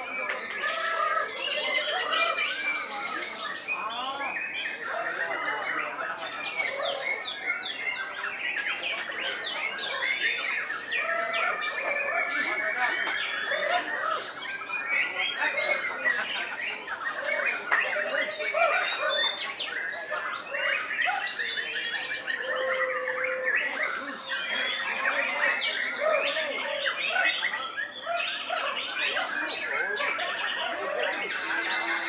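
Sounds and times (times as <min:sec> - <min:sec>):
birds singing in chorus: 0:00.0 - 0:32.0.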